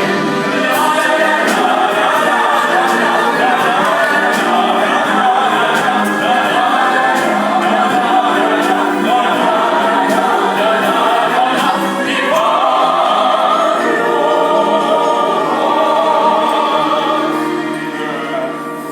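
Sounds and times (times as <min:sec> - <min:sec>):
musical accompaniment: 0:00.0 - 0:18.9
man and woman singing duet: 0:00.4 - 0:18.9.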